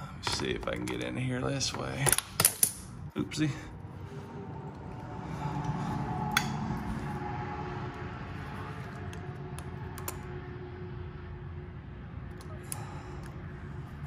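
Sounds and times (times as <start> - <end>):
steady low background hum: 0.0 - 14.0.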